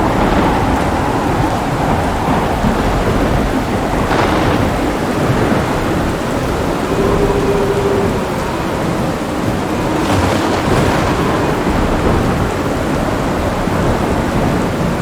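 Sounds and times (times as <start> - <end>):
heavy rain falling: 0.0 - 15.0
rumble of thunder: 0.0 - 15.0.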